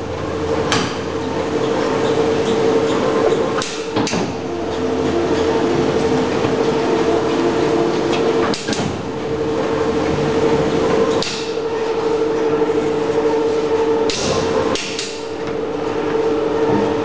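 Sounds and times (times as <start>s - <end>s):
dough sheeter machine humming: 0.0s - 17.0s.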